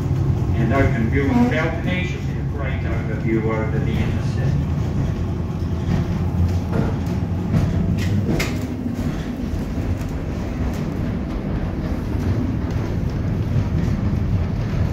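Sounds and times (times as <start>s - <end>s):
tram body rattling and clanking: 0.0s - 14.9s
tram rumbling on rails: 0.0s - 14.9s.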